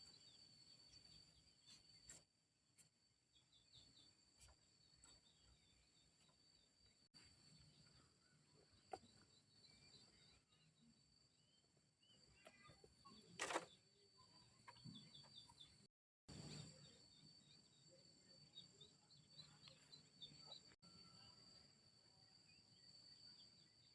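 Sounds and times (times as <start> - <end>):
faint bird chirps: 0.0 - 23.9.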